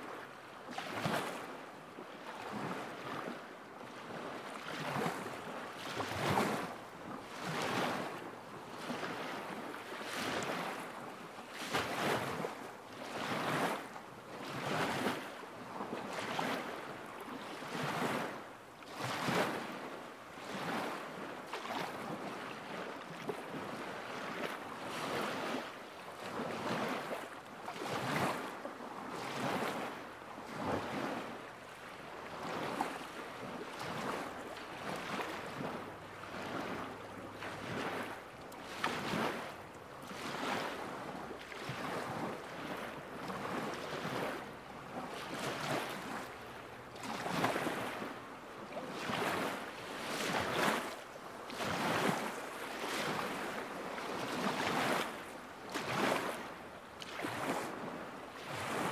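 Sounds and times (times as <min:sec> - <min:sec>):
lake waves lapping on shore: 0:00.0 - 0:58.9.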